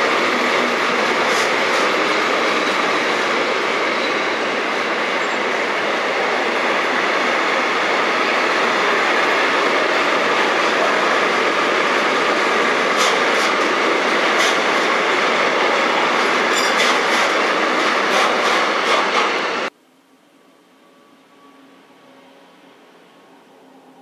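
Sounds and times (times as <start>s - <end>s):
train wheels rumbling on rails: 0.0s - 19.7s.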